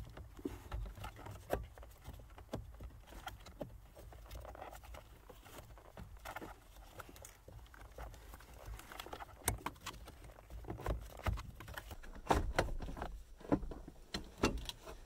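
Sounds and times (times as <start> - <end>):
glove and trim rustling: 0.0 - 15.0.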